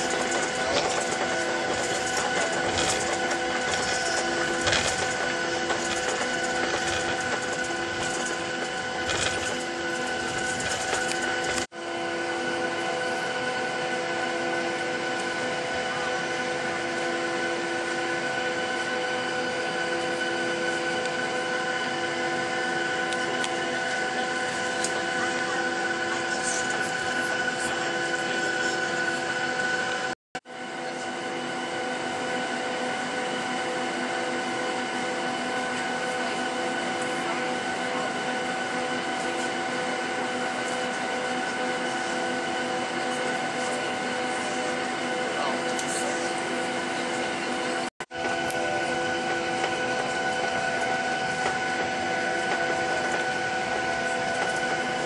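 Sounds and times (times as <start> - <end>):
jet engines whining at idle: 0.0 - 55.0.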